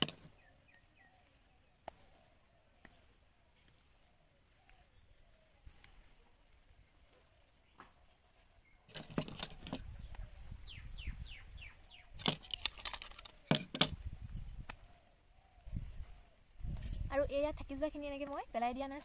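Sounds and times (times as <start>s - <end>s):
rustling near microphone: 0.0s - 19.0s.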